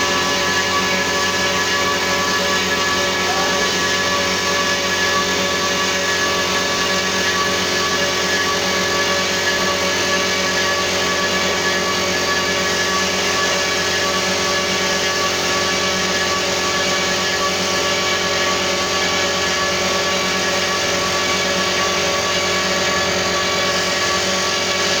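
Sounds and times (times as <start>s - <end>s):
machine running with held tones: 0.0s - 25.0s.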